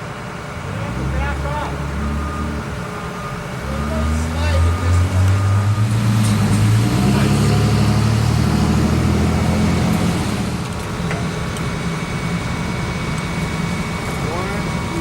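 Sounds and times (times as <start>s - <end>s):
street traffic: 0.0s - 15.0s
vehicle engine humming: 0.0s - 15.0s.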